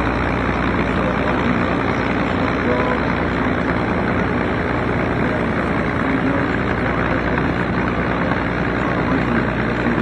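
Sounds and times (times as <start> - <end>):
dense noise wash: 0.0 - 10.0
propeller plane engines droning: 0.0 - 10.0.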